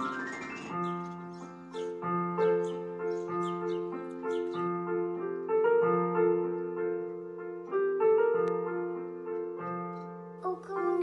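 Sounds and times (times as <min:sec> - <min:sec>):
slow piano piece: 0:00.0 - 0:11.0.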